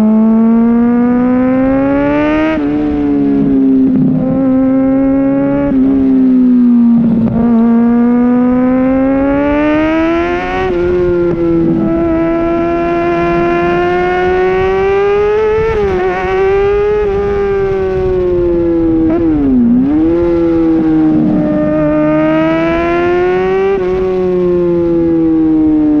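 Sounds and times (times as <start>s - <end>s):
motorcycle engine at high revs: 0.0s - 26.0s.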